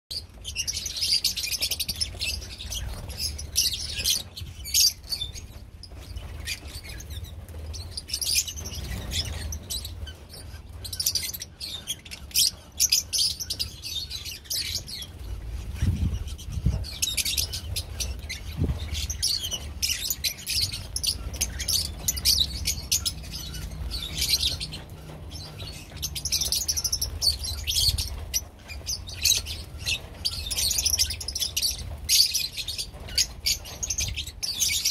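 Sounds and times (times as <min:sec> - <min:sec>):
flock of birds chirping: 0:00.1 - 0:34.9.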